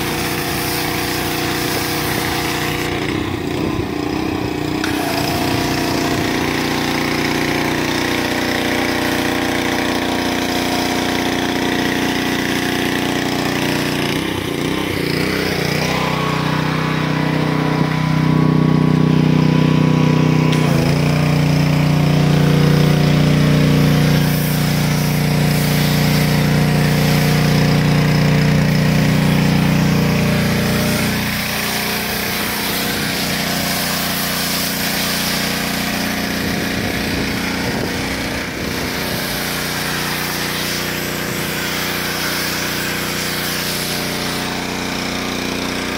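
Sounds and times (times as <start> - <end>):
spray hissing: 0.0 - 3.2, 4.8 - 17.9, 20.5 - 45.0
pressure washer motor drone: 0.0 - 45.9.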